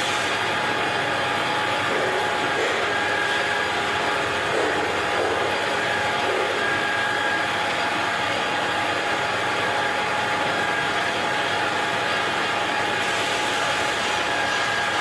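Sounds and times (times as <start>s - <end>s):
metal lathe whining: 0.0s - 15.0s.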